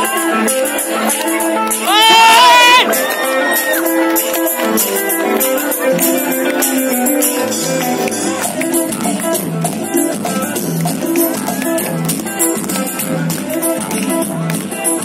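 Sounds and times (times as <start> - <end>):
fast percussion beat: 0.0 - 15.0
live band music over pa: 0.0 - 15.0.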